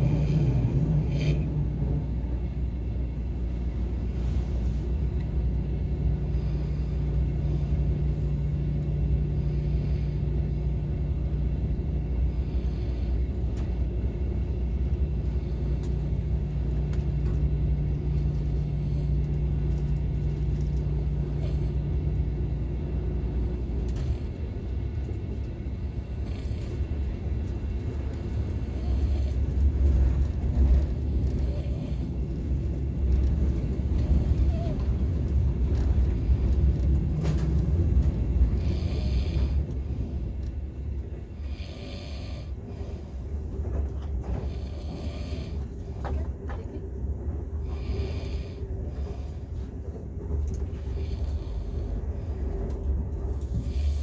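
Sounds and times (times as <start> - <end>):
steady hum: 0.0 - 54.0
train interior low rumble: 0.0 - 54.0.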